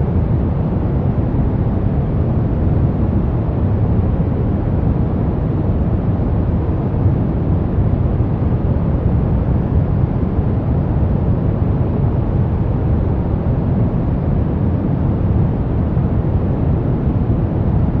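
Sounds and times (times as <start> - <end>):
brown noise: 0.0 - 18.0.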